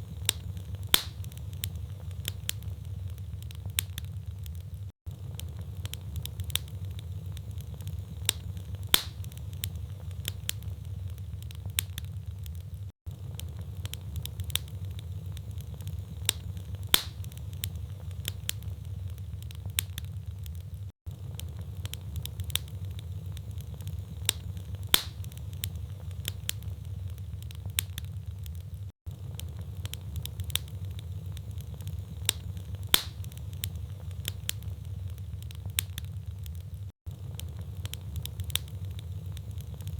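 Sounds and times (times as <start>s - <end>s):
burning logs popping: 0.0s - 39.9s
fire crackling: 0.0s - 39.9s.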